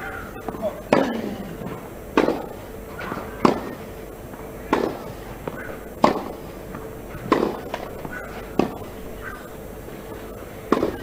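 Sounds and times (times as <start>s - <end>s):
tennis ball hit by rackets: 0.0s - 11.0s.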